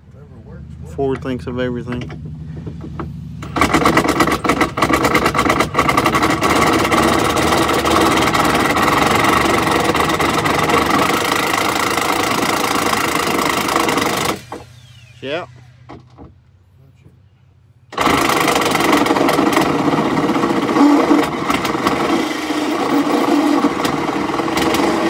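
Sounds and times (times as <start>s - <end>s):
impact wrench running: 2.0s - 16.4s, 17.9s - 25.0s.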